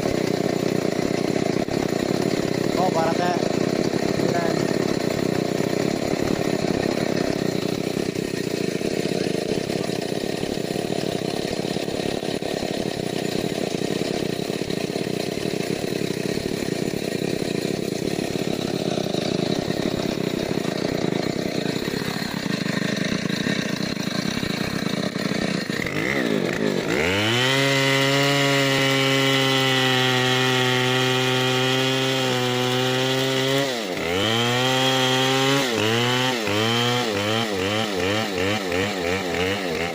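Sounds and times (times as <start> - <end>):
chainsaw cutting wood: 0.0 - 39.9
chainsaw engine revving: 0.0 - 39.9.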